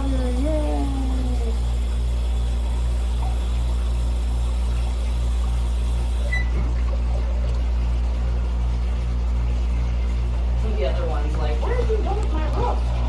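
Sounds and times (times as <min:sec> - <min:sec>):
faint water trickle: 0:00.0 - 0:13.0
low throbbing machine hum: 0:00.0 - 0:13.0.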